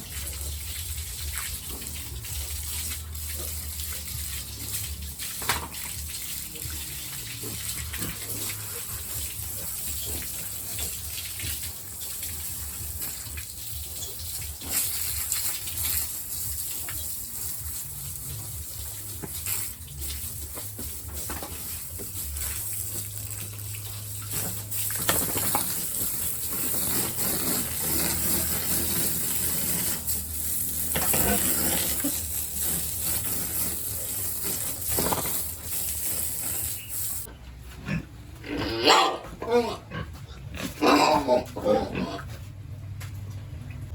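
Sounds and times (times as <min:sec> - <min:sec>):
water gushing from a hose: 0:00.0 - 0:37.3.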